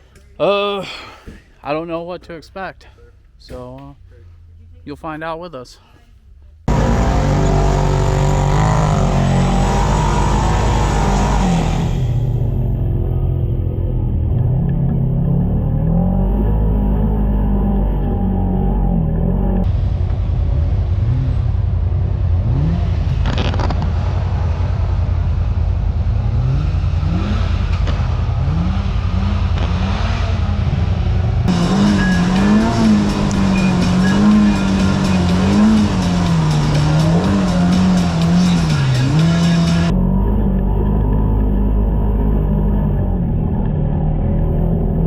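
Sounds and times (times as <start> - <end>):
utv engine revving: 6.7 - 45.0.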